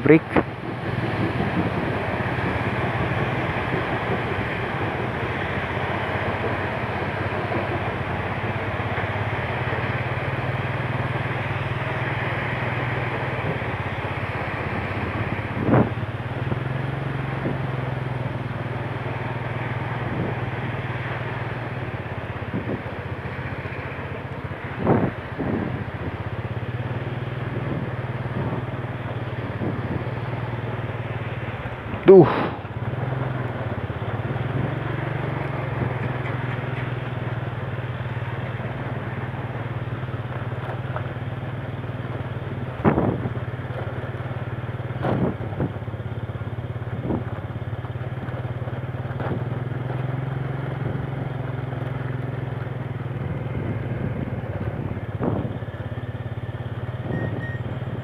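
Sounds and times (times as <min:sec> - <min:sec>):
motorcycle engine at low speed: 0:00.0 - 0:58.0.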